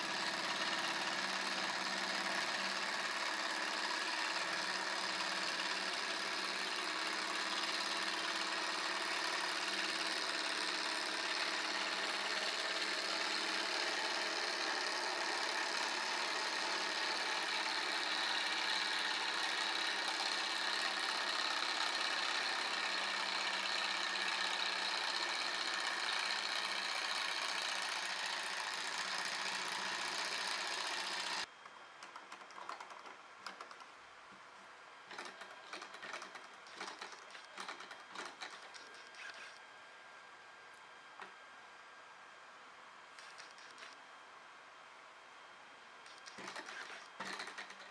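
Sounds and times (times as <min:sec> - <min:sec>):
small engine whirring: 0:00.0 - 0:31.5, 0:35.1 - 0:39.6, 0:43.2 - 0:44.0, 0:46.0 - 0:47.9.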